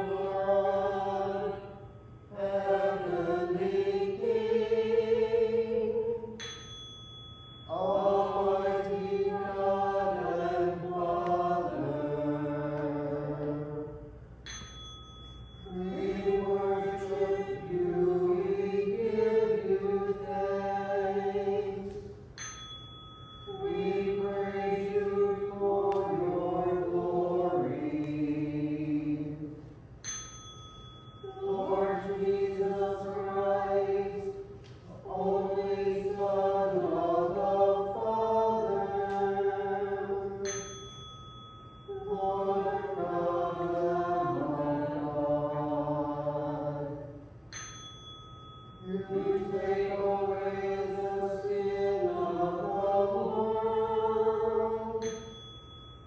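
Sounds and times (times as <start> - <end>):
voices singing a chant: 0.0 - 6.6, 7.7 - 14.1, 15.6 - 22.2, 23.5 - 29.7, 31.2 - 40.9, 41.9 - 47.3, 48.8 - 55.4.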